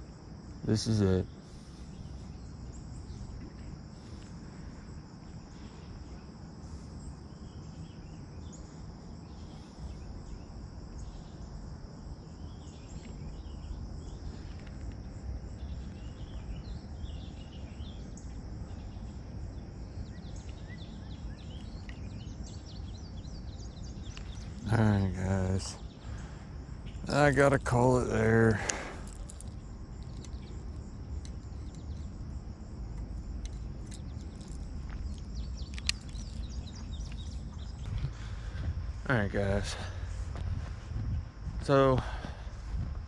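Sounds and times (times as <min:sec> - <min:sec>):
birds chirping: 0:00.0 - 0:43.0
insect chorus: 0:00.0 - 0:43.0
low steady rumble: 0:00.7 - 0:43.0.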